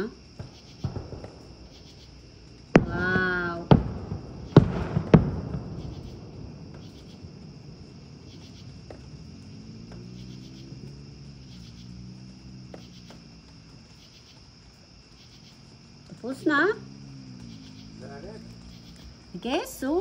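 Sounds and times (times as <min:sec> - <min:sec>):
crickets chirping: 0:00.0 - 0:20.0
distant sharp pops: 0:00.0 - 0:20.0.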